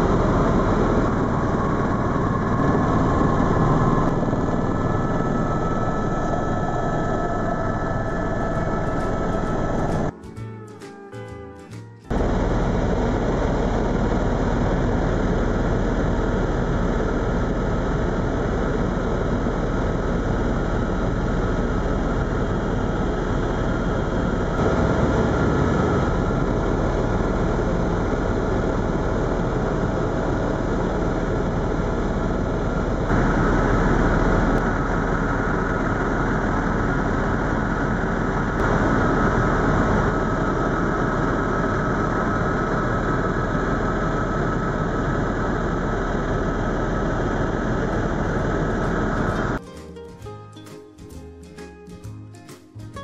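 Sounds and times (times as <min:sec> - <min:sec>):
helicopter turbine and rotors droning: 0:00.0 - 0:10.5, 0:12.1 - 0:49.6.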